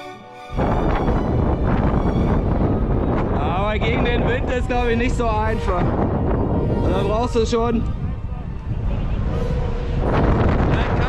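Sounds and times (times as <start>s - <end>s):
wind blowing over microphone: 0.5s - 11.0s.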